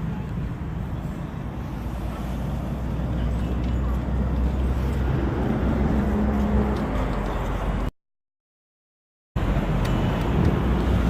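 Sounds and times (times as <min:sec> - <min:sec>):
street traffic rumble: 0:00.0 - 0:07.9, 0:09.4 - 0:11.0.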